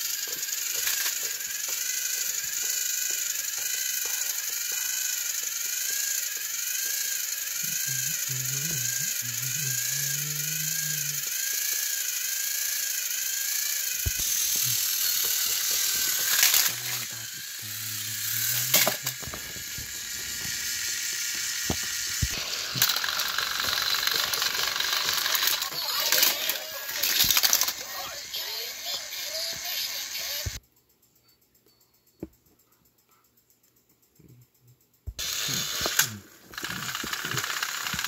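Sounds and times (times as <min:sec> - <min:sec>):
toy train motors whirring: 0:00.0 - 0:30.7, 0:33.7 - 0:38.0.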